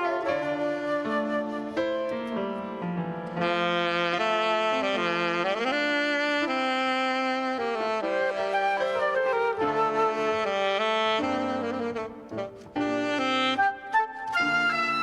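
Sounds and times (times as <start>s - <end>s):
saxophone playing a hymn melody: 0.0s - 1.8s, 3.3s - 15.0s.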